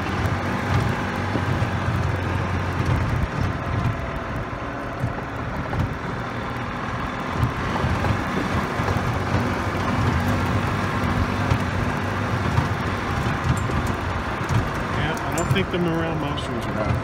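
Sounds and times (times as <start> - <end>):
golf cart driving on gravel: 0.0 - 17.0.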